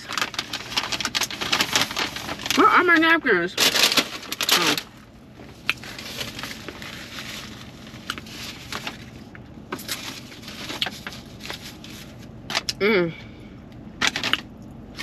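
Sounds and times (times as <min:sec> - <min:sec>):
paper bag rustling: 0:00.0 - 0:12.7.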